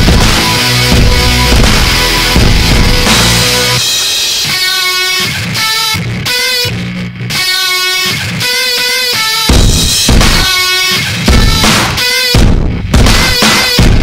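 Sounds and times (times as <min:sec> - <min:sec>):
rock music with guitar and drums: 0:00.0 - 0:14.0.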